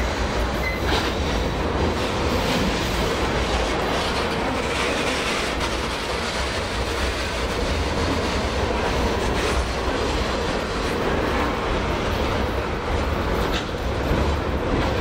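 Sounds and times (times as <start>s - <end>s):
diesel locomotive: 0.0s - 15.0s
freight train cars rolling on rails: 0.0s - 15.0s.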